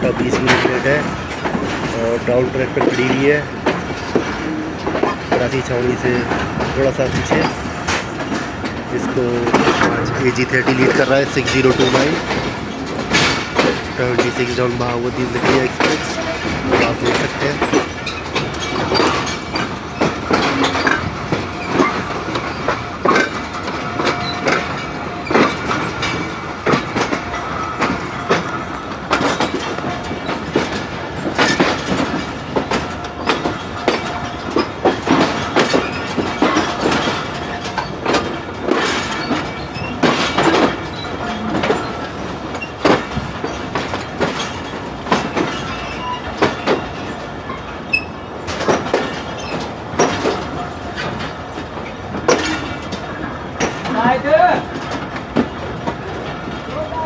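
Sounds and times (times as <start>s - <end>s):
train wheels rumbling over rails: 0.0s - 57.0s
wheels clanking and clicking: 0.0s - 57.0s.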